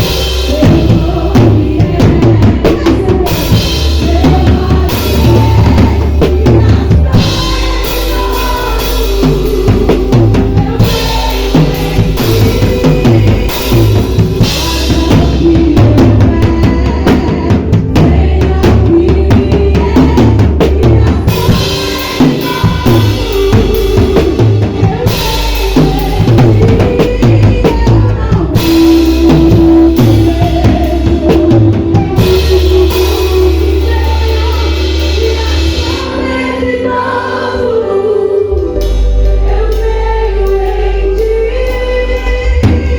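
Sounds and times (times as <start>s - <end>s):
drum kit playing: 0.0s - 42.9s
loud backing music: 0.0s - 42.9s.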